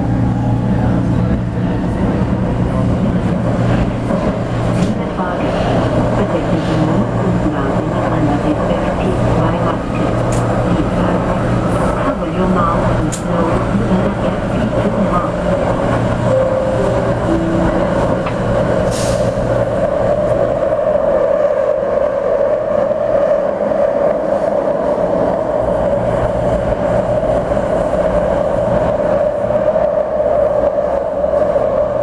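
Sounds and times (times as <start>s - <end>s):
metro train rumble and hum: 0.0s - 32.0s.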